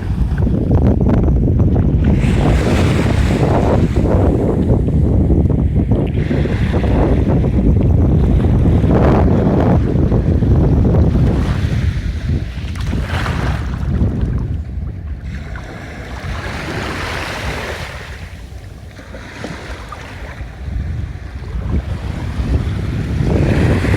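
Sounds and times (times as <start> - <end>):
wind rumbling on microphone: 0.0 - 23.9
small ocean waves washing ashore: 2.0 - 23.9.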